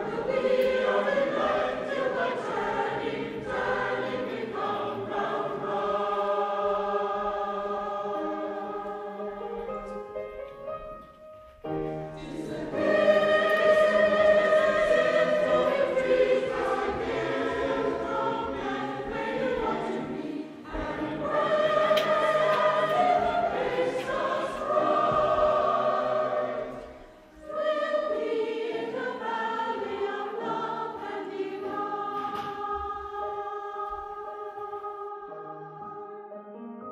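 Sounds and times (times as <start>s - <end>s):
choir singing long notes: 0.0s - 10.4s, 11.1s - 36.8s.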